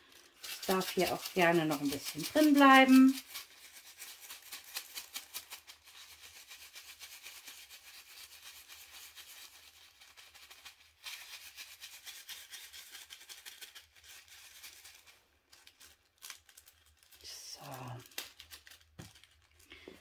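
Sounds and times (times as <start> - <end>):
beads rattling in plastic bag: 0.0 - 20.0.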